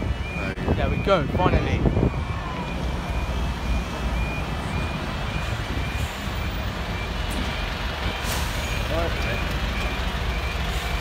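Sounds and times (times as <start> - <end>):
level crossing warning alarm: 0.0 - 11.0.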